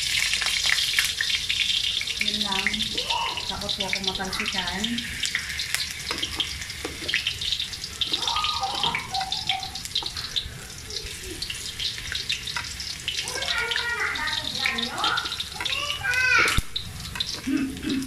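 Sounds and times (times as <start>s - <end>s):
carrots sizzling in hot oil: 0.0s - 18.0s.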